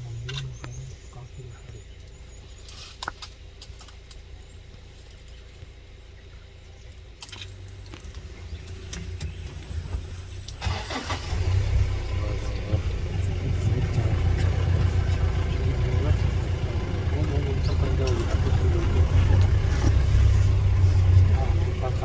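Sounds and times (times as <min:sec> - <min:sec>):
vehicle engine starting and running: 0:00.0 - 0:22.0.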